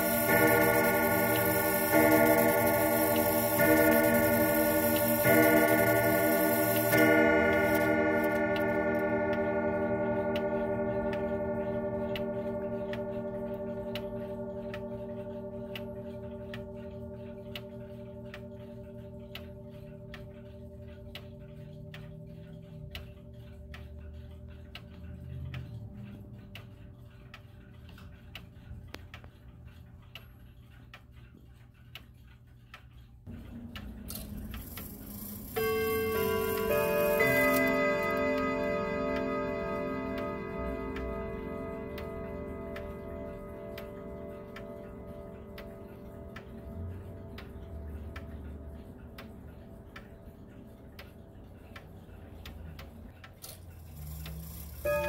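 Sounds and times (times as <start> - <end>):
clock chime rods ringing: 0.0 - 28.2, 33.3 - 55.0
clock ticking: 0.0 - 55.0.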